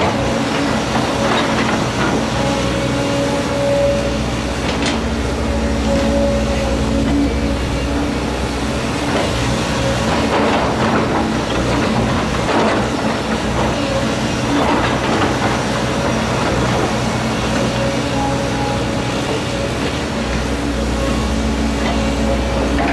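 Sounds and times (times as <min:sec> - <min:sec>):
excavator diesel engine under load: 0:00.0 - 0:22.9.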